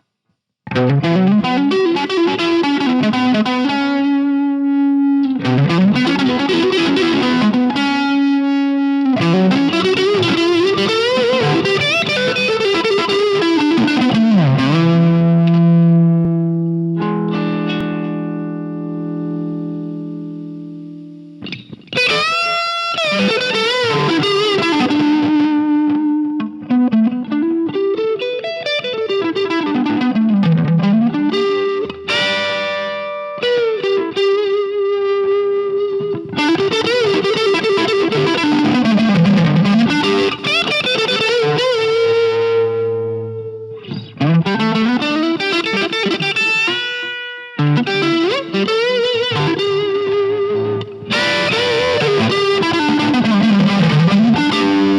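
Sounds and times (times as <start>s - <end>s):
distorted electric guitar riff: 0.6s - 54.9s.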